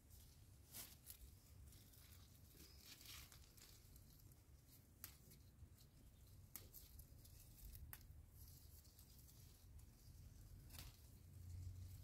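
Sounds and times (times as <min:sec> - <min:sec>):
leaves crackling and tearing: 0:00.2 - 0:12.0.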